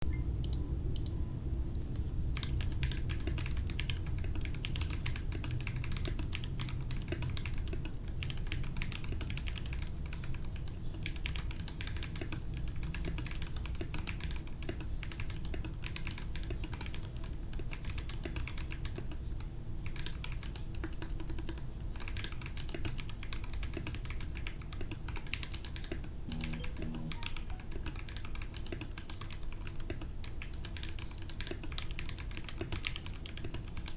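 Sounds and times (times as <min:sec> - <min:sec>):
mechanical keyboard clacking: 0:02.4 - 0:19.2, 0:19.8 - 0:33.9.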